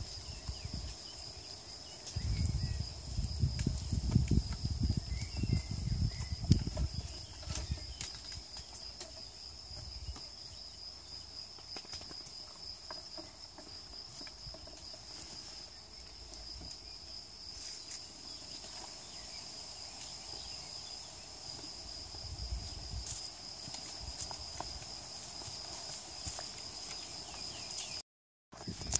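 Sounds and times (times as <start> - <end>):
goats stepping on stony ground: 0.0 - 19.3, 21.4 - 28.0
insect chirring: 0.0 - 28.0.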